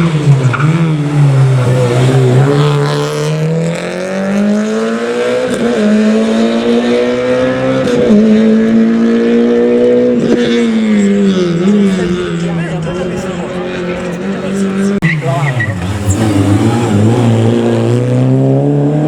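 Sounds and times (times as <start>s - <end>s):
rally car engine at full throttle: 0.0s - 19.0s.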